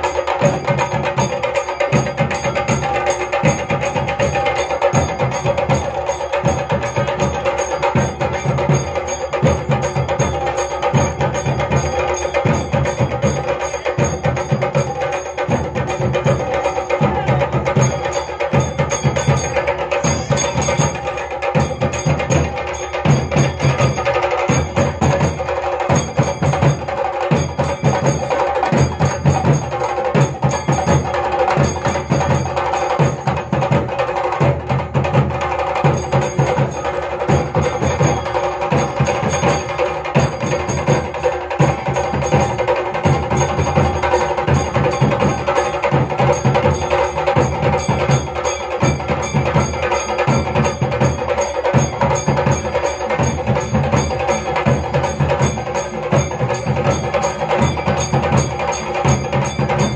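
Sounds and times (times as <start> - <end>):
drums beaten with sticks: 0.0 - 59.9.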